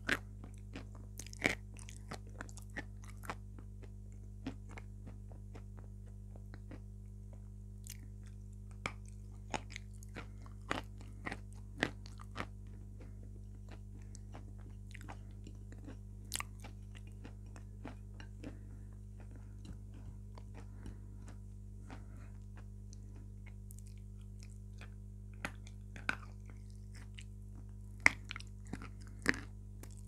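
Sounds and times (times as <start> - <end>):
chewing and lip smacks: 0.0 - 30.0
steady low hum: 0.0 - 30.0.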